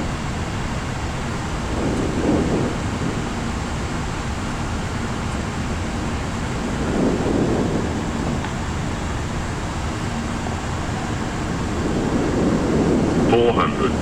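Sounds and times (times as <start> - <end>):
aircraft engine noise: 0.0 - 14.0
airflow rush in cockpit: 0.0 - 14.0.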